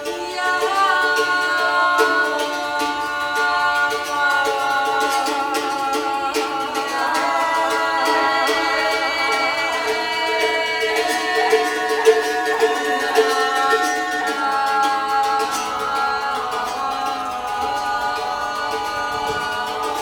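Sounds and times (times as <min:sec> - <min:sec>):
voices singing held notes: 0:00.0 - 0:20.0.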